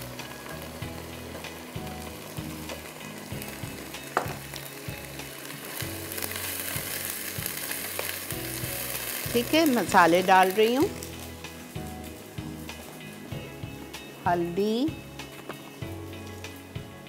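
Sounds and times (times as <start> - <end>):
potatoes sizzling in hot oil: 0.0 - 17.0.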